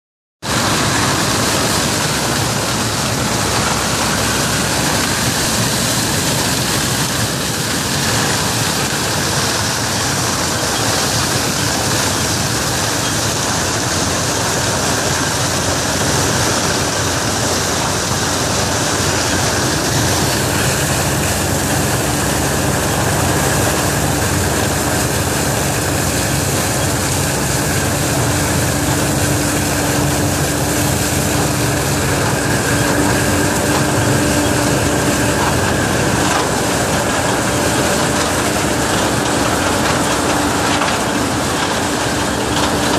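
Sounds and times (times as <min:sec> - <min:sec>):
harvester engine and gear rushing: 0:00.4 - 0:42.9
steady hum: 0:00.4 - 0:42.9.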